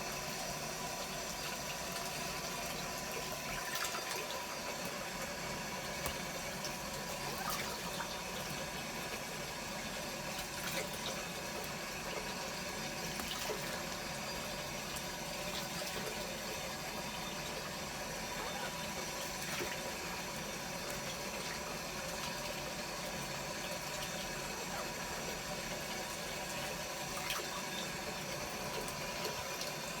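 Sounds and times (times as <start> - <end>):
shower water running: 0.0 - 30.0.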